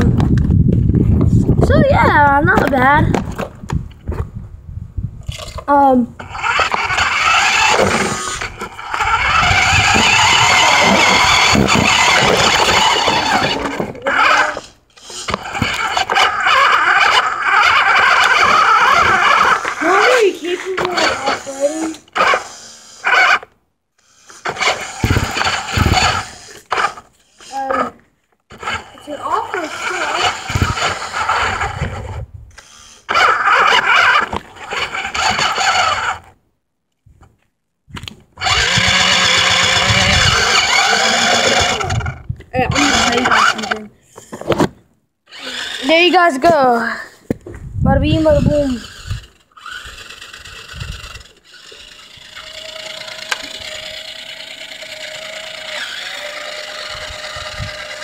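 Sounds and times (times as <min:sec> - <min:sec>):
toy car motor whirring: 0:05.3 - 0:36.4, 0:38.4 - 0:44.6, 0:45.2 - 0:47.0, 0:48.0 - 0:58.0
gritty grinding rasp: 0:06.2 - 0:36.4, 0:38.4 - 0:44.7, 0:45.3 - 0:46.7, 0:48.1 - 0:58.0.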